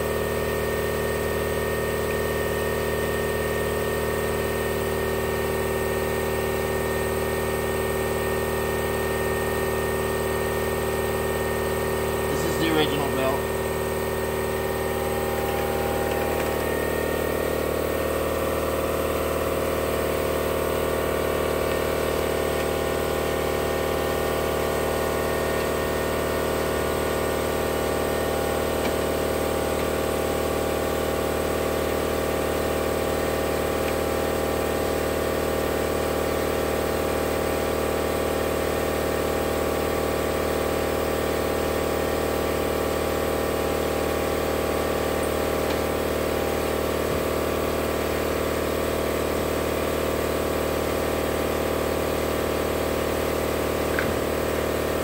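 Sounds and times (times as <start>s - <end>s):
motor running steadily: 0.0s - 55.0s.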